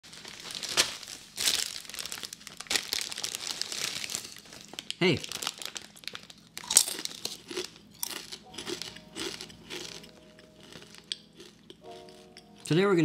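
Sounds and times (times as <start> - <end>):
plastic bag crinkling: 0.0 - 12.7
crunching and chewing chips: 0.1 - 12.8.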